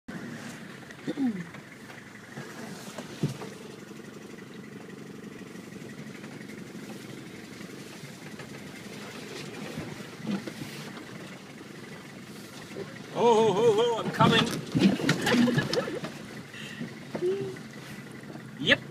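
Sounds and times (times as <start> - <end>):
vehicle engine running inside cabin: 0.1 - 18.9.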